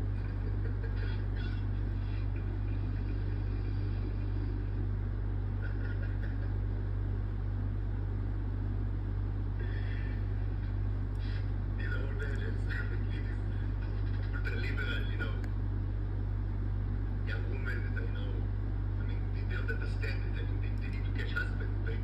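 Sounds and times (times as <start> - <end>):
low hum and rumble: 0.0 - 22.0.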